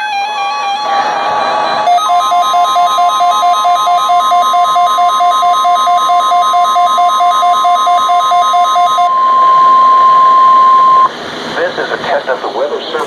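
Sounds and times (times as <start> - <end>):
steady high alarm tone: 0.0 - 11.1
two-pitch alarm beeping: 0.0 - 11.1.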